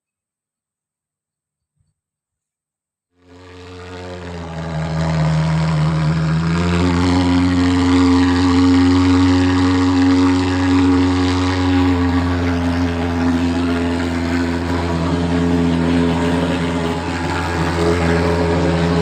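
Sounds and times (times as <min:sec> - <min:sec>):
fogging machine engine buzzing: 0:03.2 - 0:19.0.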